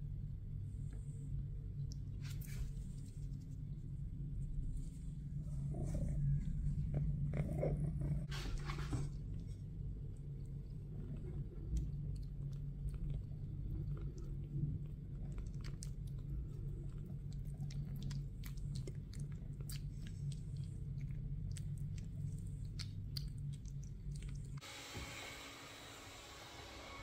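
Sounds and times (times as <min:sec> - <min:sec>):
kitten purring: 0:00.6 - 0:24.6
kitten chewing and licking: 0:00.7 - 0:24.6.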